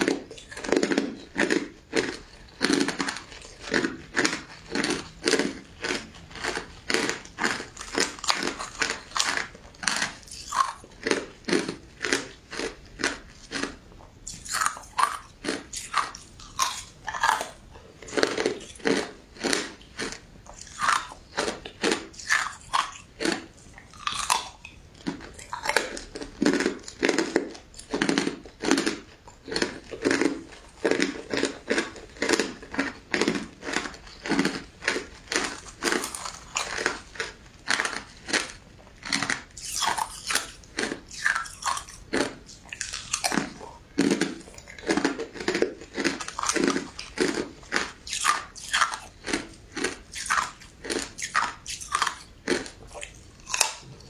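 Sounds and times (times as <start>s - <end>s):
ice crunching between teeth: 0.0s - 54.0s.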